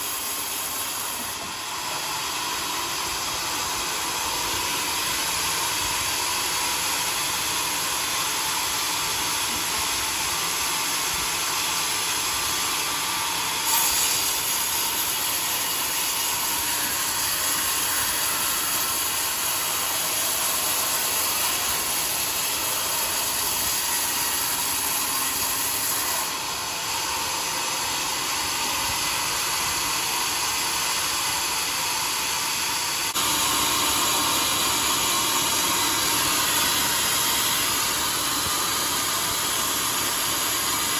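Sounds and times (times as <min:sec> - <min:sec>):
sawmill cutting a log: 0:00.0 - 0:40.9.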